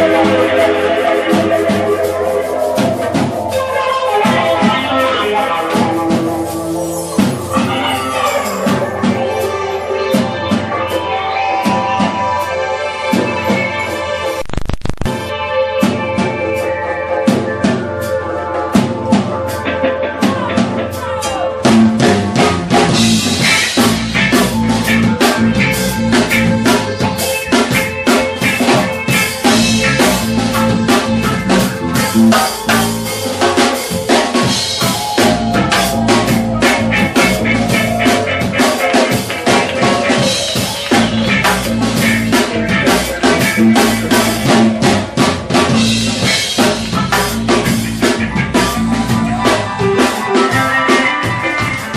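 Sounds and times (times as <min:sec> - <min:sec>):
drum kit: 0:00.0 - 0:51.9
electric guitar: 0:00.0 - 0:51.9
live dub band playing: 0:00.0 - 0:51.9.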